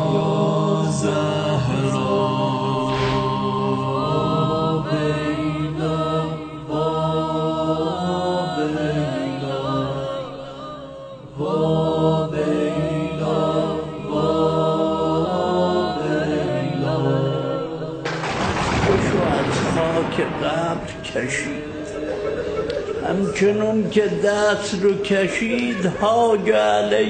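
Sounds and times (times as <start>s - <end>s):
voices chanting a lament: 0.0s - 27.0s.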